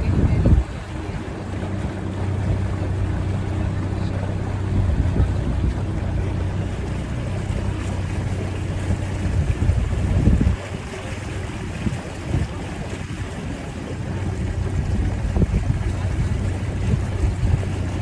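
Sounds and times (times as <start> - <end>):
boat motor humming: 0.0 - 18.0
wind buffeting microphone: 0.0 - 18.0.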